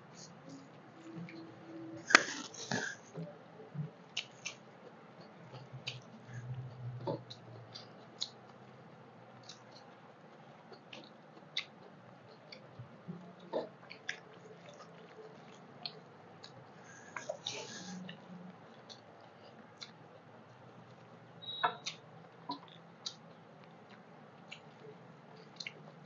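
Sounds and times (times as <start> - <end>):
soft chewing and mouth smacks: 0.0 - 26.0.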